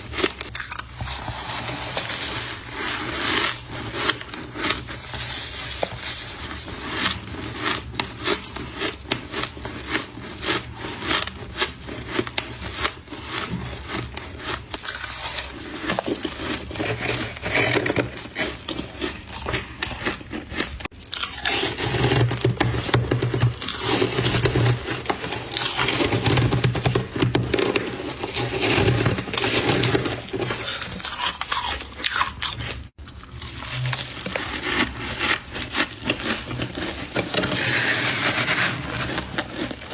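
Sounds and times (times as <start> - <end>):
frost crunching between teeth: 0.0 - 22.6, 29.2 - 39.9.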